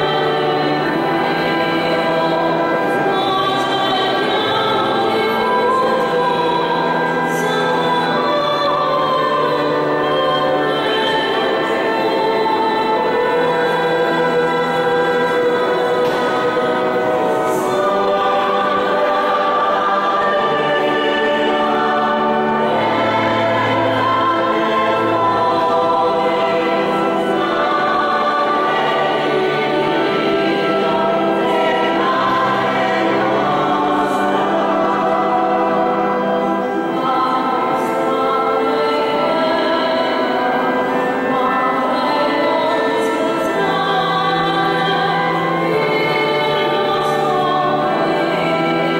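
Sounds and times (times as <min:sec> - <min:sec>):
choir singing a slow hymn: 0:00.0 - 0:48.9.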